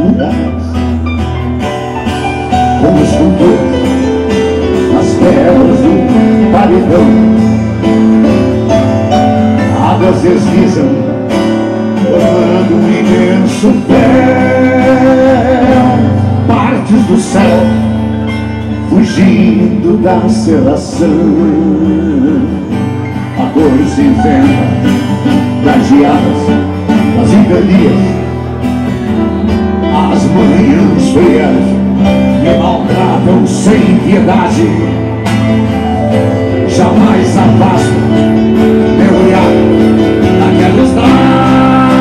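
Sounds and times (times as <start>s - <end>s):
acoustic guitars: 0.0s - 42.0s
keyboard chords: 0.0s - 42.0s.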